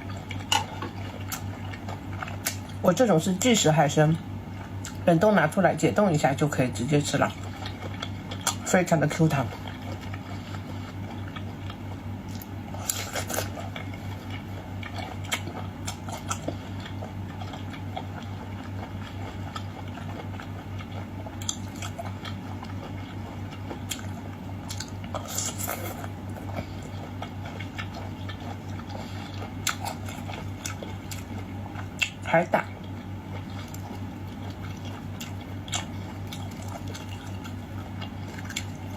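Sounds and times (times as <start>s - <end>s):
person chewing food: 0.0s - 5.4s, 6.5s - 38.9s
steady low hum: 0.0s - 38.9s.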